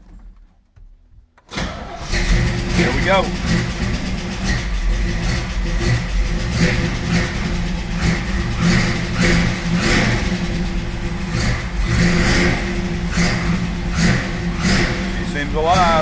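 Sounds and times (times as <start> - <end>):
engine revving surges: 1.7 - 16.0
car engine running unevenly: 1.8 - 16.0.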